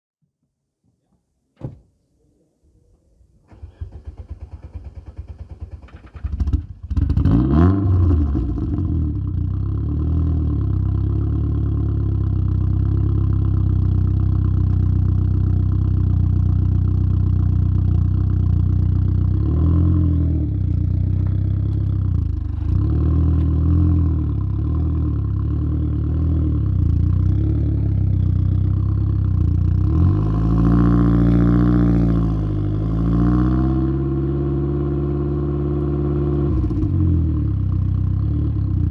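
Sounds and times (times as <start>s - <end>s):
car engine idling and revving: 3.9s - 38.9s.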